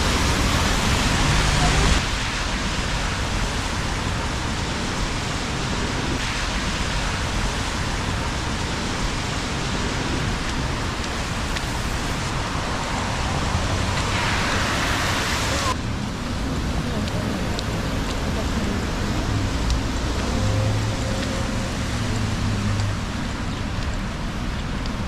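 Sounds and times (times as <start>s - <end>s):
rain on a wet street: 0.0s - 25.0s.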